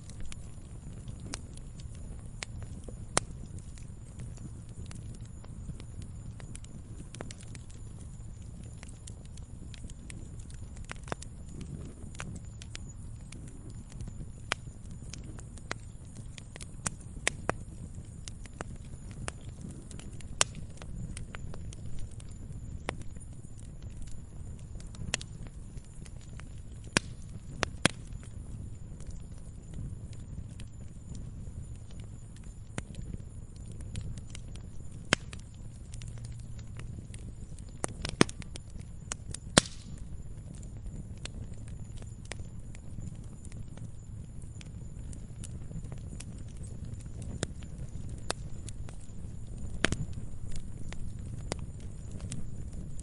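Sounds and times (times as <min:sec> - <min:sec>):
low rumble of burning: 0:00.0 - 0:53.0
wood fire crackling and popping: 0:00.0 - 0:53.0.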